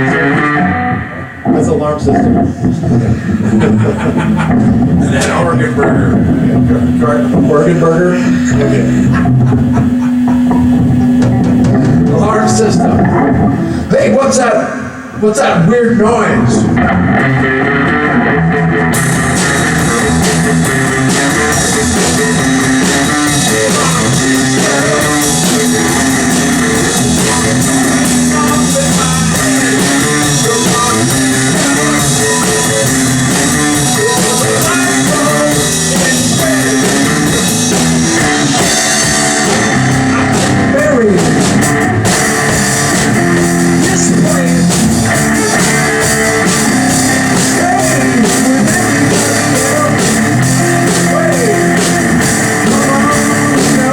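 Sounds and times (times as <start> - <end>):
rock band playing: 0.0 - 53.9.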